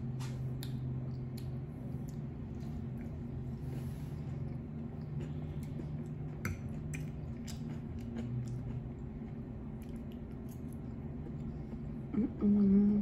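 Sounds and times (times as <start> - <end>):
low hum: 0.0 - 13.0
chewing food: 0.2 - 12.1.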